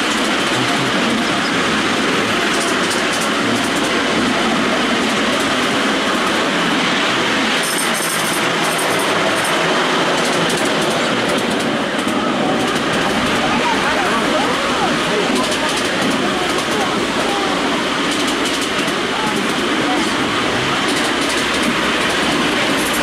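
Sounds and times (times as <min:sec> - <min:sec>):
train wheels rumbling on rail: 0:00.0 - 0:23.0
wheels clicking on track: 0:00.0 - 0:23.0.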